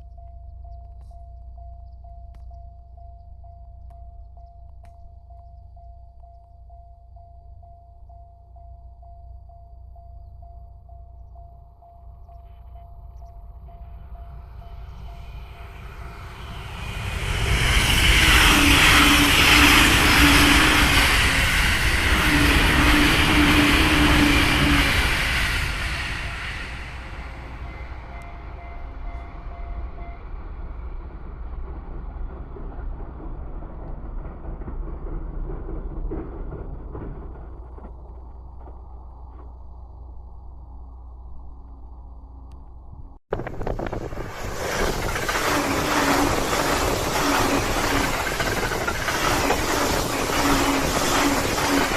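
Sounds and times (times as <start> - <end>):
electric train passing at speed: 5.2 - 39.1, 43.3 - 51.9.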